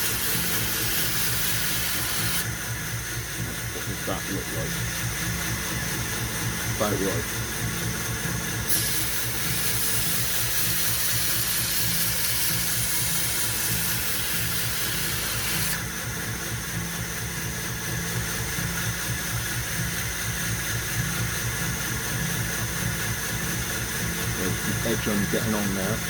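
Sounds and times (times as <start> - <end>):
belt grinder running: 0.0 - 16.3, 21.0 - 26.0.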